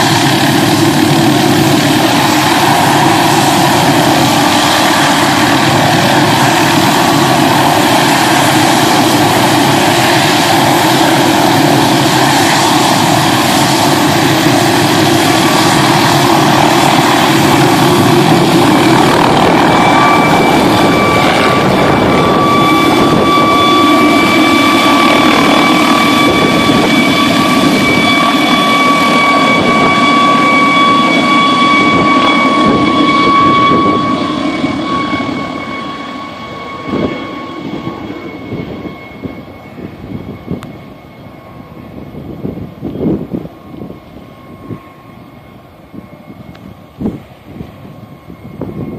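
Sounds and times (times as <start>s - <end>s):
helicopter engine and rotor: 0.0s - 48.9s
high turbine whine: 0.0s - 48.9s.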